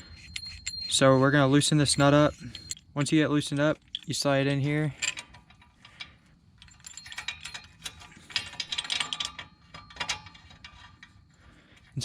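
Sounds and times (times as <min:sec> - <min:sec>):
metal tool clicking and scraping: 0:00.0 - 0:11.3.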